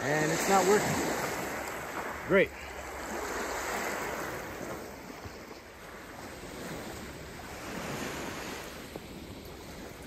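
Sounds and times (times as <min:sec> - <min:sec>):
waves washing onto pebble beach: 0:00.0 - 0:10.0.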